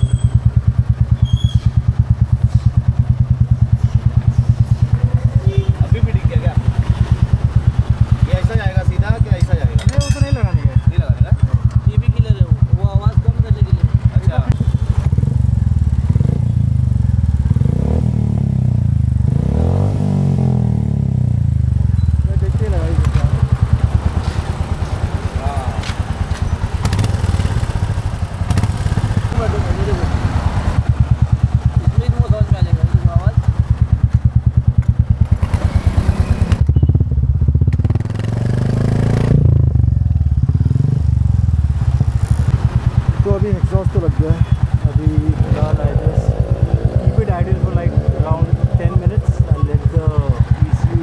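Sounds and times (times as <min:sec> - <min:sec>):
motorcycle engine idling: 0:00.0 - 0:51.0
engine revving: 0:03.4 - 0:12.6, 0:13.5 - 0:37.0, 0:37.6 - 0:51.0.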